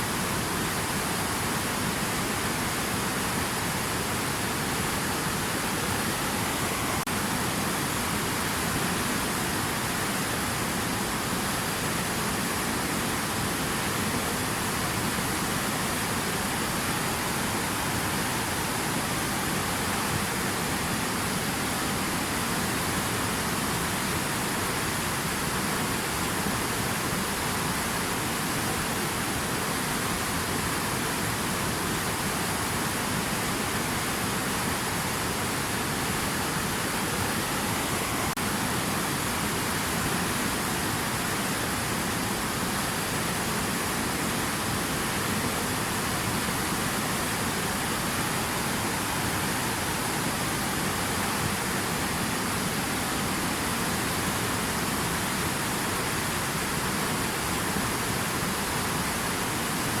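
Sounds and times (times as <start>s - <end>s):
rushing water: 0.0s - 60.0s.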